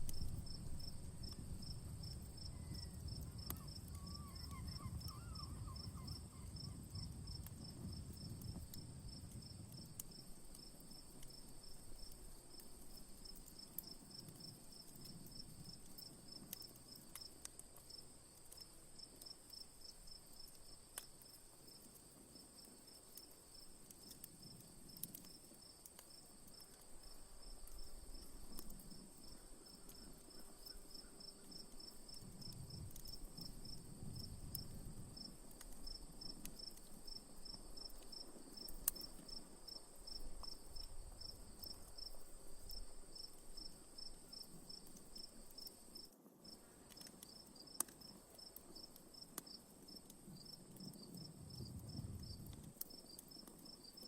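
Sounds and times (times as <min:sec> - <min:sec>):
crickets chirping: 0:00.0 - 0:54.0
wood fire crackles: 0:00.0 - 0:54.0.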